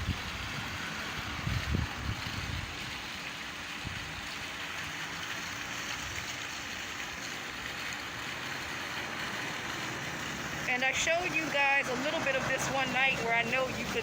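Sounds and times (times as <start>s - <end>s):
water fountain splashing: 0.0s - 14.0s.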